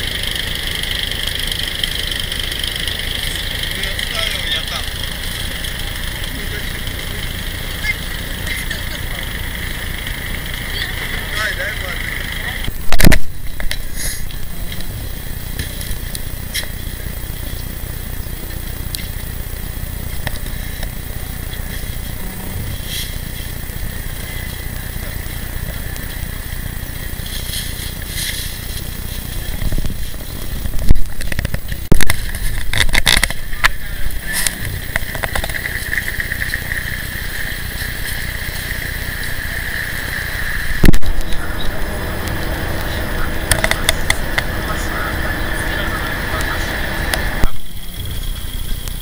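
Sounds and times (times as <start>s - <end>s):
outdoor background rumble: 0.0s - 49.0s.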